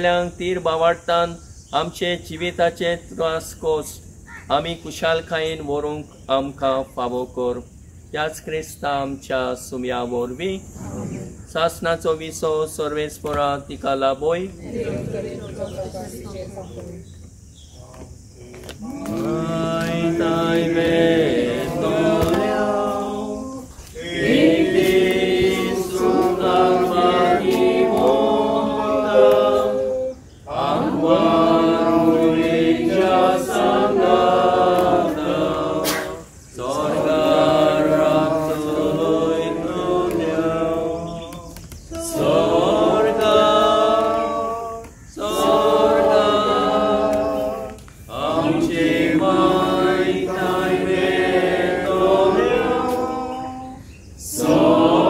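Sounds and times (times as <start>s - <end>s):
voices singing a hymn: 0.0s - 55.0s.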